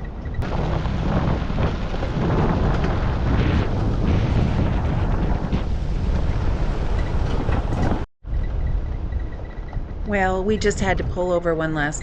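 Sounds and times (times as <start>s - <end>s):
engine and tyres rumbling: 0.0s - 10.1s
gravel crackling: 0.0s - 10.9s
wind buffeting microphone: 0.0s - 12.0s.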